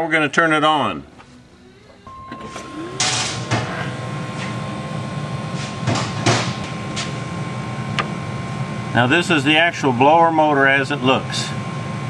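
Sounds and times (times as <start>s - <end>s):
blower motor humming and whining: 0.6s - 12.0s.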